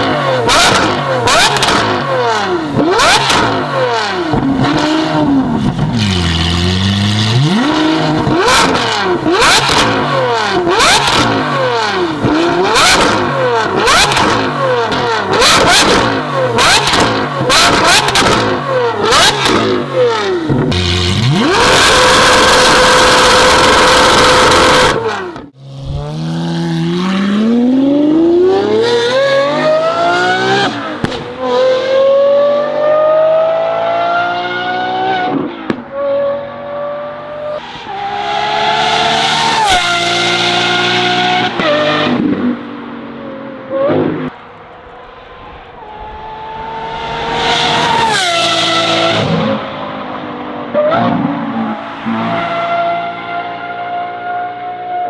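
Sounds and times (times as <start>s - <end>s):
sports car engine revving and accelerating: 0.0s - 44.4s.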